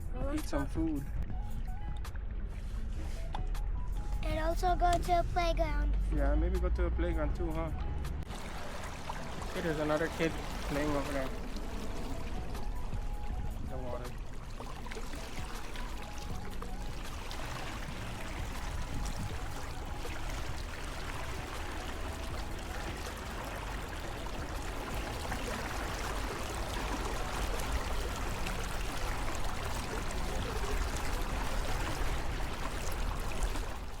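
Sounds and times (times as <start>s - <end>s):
water lapping and trickling: 0.0s - 34.0s.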